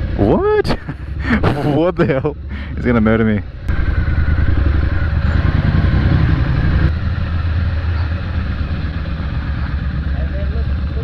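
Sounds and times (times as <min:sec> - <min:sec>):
motorcycle engine riding: 0:00.0 - 0:11.0.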